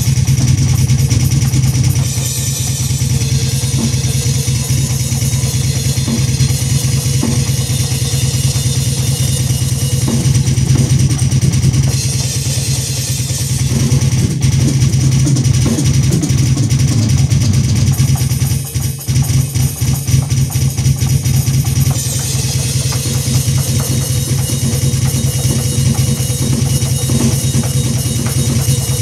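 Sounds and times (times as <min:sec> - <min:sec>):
electronic drum kit playing: 0:00.0 - 0:29.0
rapid bass drum strokes: 0:00.0 - 0:29.0.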